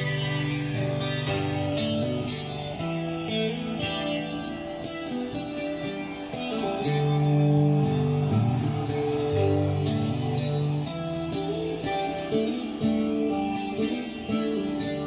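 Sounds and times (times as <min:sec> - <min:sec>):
acoustic guitars playing rock: 0:00.0 - 0:15.0.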